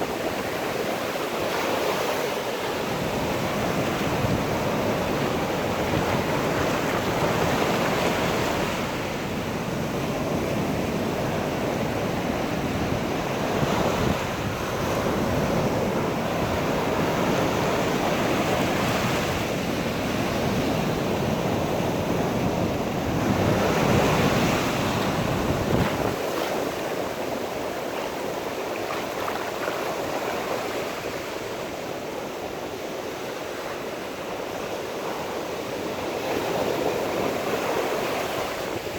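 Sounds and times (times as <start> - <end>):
sea waves breaking on shore: 0.0 - 38.9
wind rumbling on microphone: 0.0 - 38.9.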